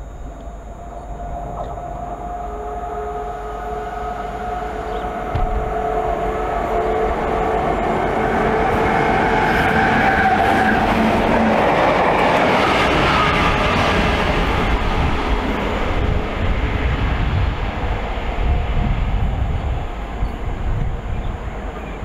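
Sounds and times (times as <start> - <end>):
locomotive engine noise: 0.0 - 22.0
train wheels on rails: 0.0 - 22.0.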